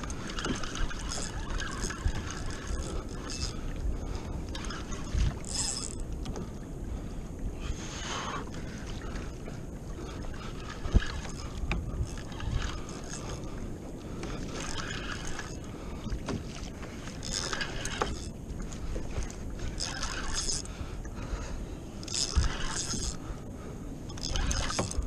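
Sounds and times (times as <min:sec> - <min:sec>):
water lapping against kayak hull: 0:00.0 - 0:25.0.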